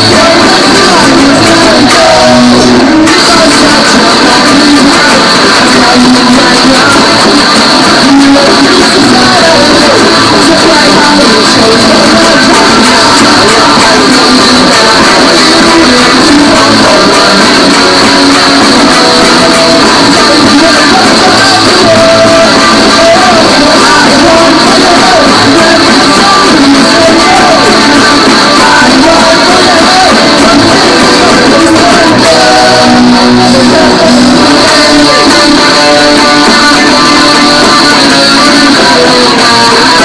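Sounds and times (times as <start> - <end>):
electric guitar strummed fast: 0.0 - 40.0
punk rock recording with singing: 0.0 - 40.0.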